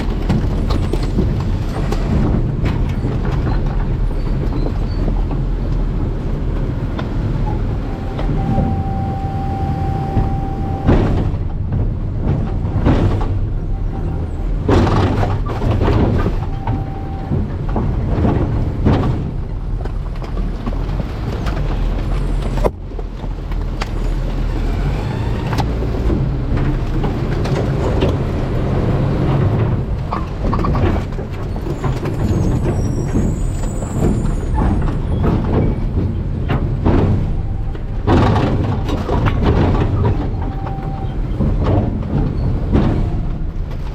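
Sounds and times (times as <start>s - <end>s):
trash banging and crunching: 0.0s - 9.0s, 10.0s - 24.6s, 25.6s - 43.9s
garbage truck engine rumbling: 0.0s - 43.9s.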